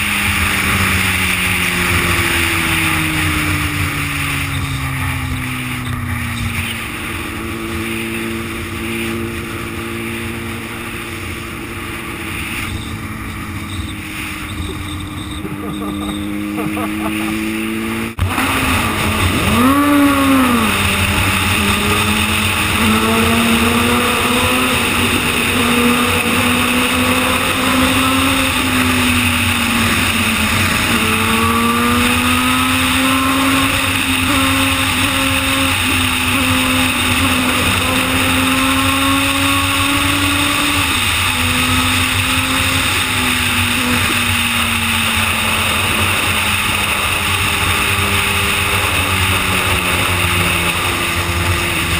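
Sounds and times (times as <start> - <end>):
motorcycle engine at speed: 0.0 - 51.9
road noise: 0.0 - 51.9
wind noise: 0.0 - 51.9.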